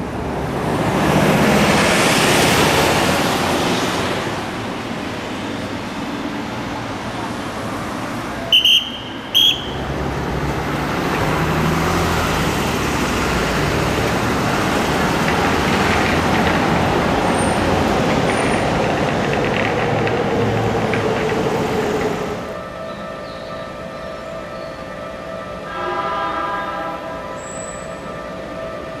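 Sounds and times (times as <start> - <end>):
heavy road traffic: 0.0 - 29.0.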